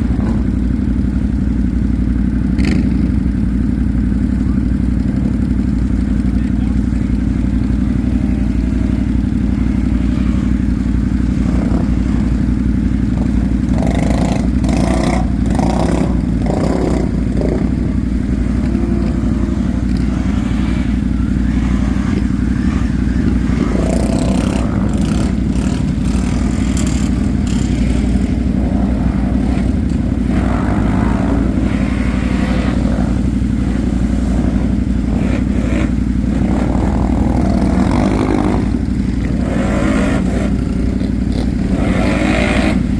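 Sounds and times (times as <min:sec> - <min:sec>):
quad bike engine running: 0:00.0 - 0:42.9.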